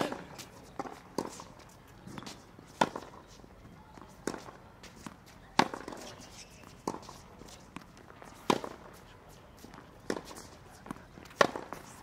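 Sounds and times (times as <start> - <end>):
racket hitting tennis ball: 0.0 - 3.2, 4.0 - 9.0, 9.6 - 12.0.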